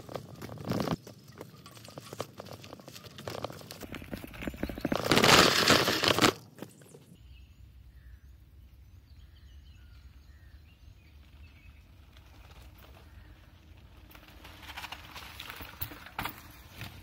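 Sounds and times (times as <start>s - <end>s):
mountain bike on dirt trail: 0.0s - 8.2s, 9.0s - 17.0s.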